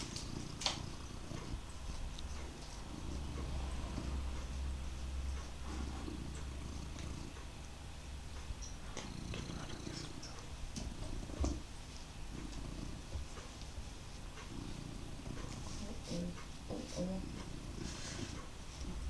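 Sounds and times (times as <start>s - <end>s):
cat purring loudly: 0.0s - 7.6s, 8.6s - 19.0s.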